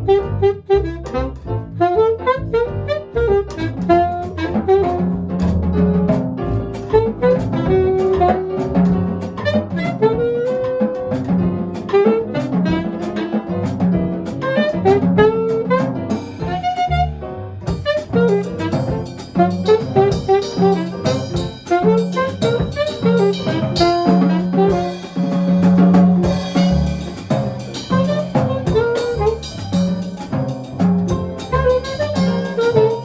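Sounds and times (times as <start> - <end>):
horn melody: 0.0 - 5.6, 6.8 - 33.0
drum kit with cymbals: 0.0 - 33.0
walking bass line: 0.0 - 33.0.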